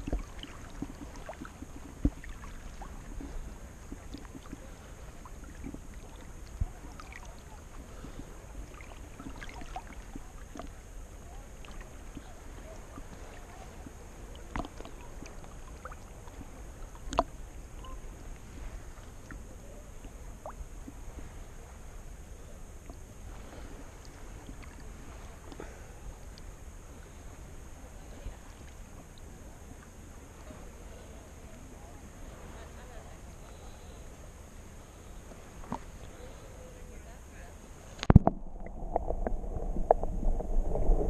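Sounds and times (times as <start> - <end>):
water lapping against camera: 0.0 - 41.0.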